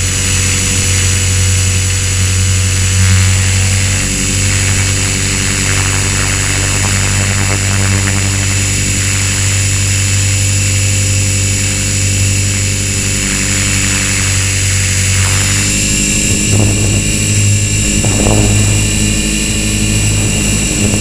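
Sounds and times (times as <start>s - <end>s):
rc helicopter motor whining: 0.0s - 21.0s.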